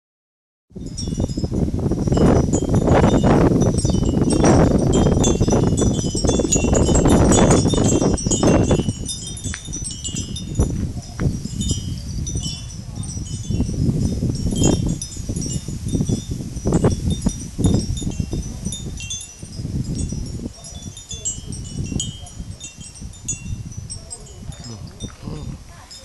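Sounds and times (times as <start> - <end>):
wind gusting on microphone: 0.7 - 26.0
wind chimes tinkling: 0.8 - 26.0.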